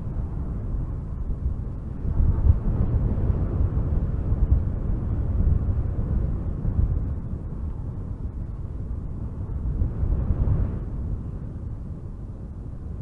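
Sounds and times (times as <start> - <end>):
strong wind through trees: 0.0 - 13.0.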